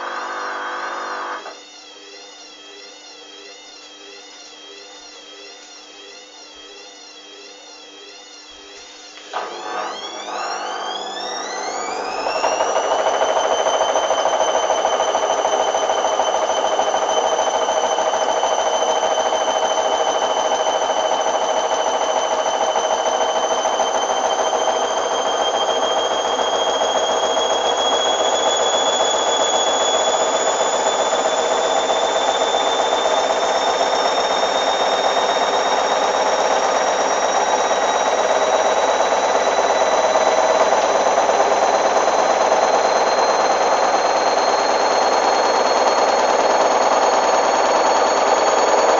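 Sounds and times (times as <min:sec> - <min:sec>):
washing machine spinning: 0:00.0 - 0:02.3, 0:09.0 - 0:48.9
motor whine rising in pitch: 0:00.0 - 0:48.9.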